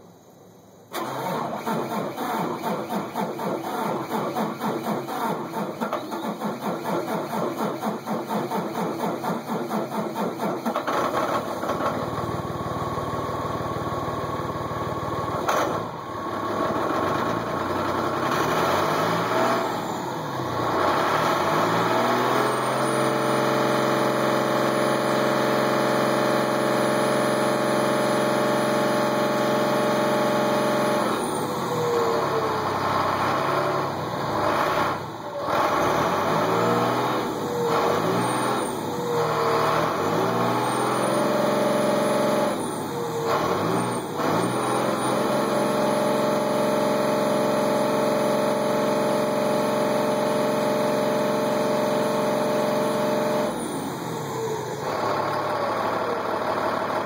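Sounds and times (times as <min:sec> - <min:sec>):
bus engine cranking and revving: 0:00.0 - 0:57.0.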